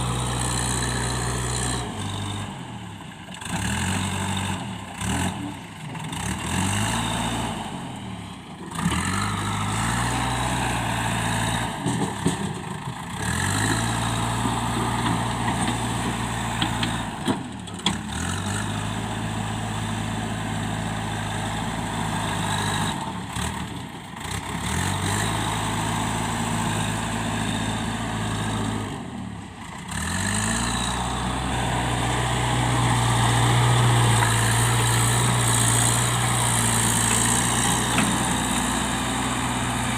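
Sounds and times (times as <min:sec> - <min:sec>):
diesel engine under varying load: 0:00.0 - 0:39.9.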